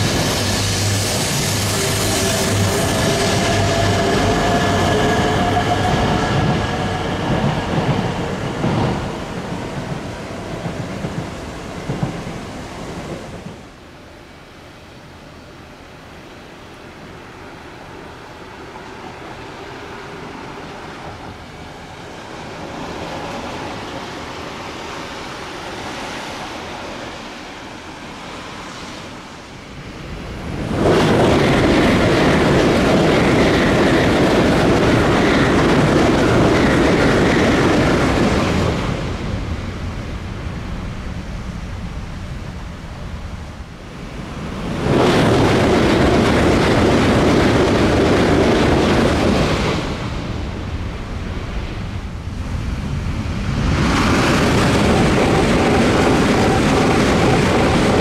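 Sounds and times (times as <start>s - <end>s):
high-speed train passing: 0.0s - 58.0s.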